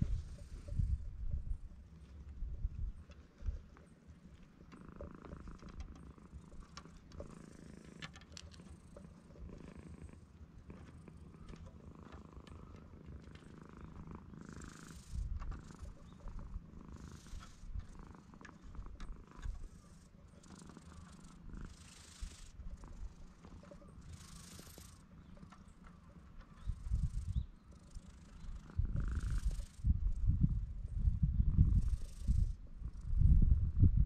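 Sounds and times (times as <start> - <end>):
cat purring: 0.0 - 1.2, 2.0 - 34.0.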